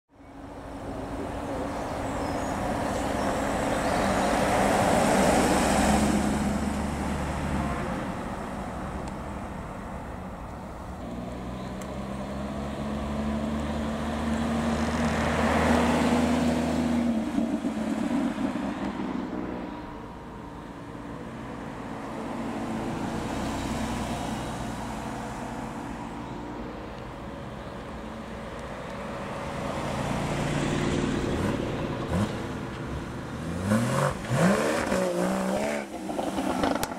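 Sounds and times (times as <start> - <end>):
sports cars driving past: 0.3 - 36.9.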